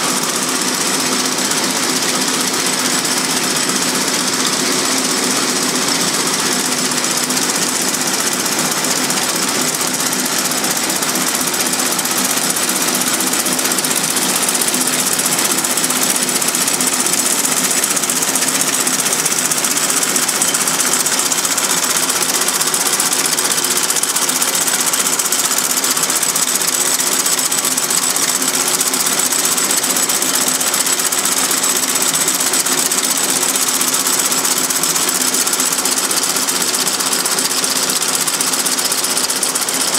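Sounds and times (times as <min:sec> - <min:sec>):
machine fast mechanical clatter: 0:00.0 - 0:39.9.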